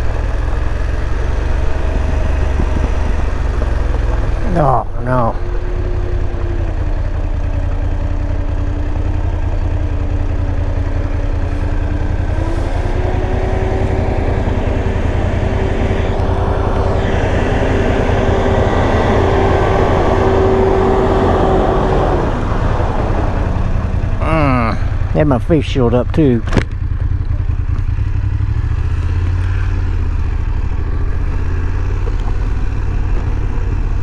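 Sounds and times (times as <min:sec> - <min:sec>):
low wind: 0:00.0 - 0:34.0
motorcycle engine running: 0:00.0 - 0:34.0
road rumble: 0:00.0 - 0:34.0.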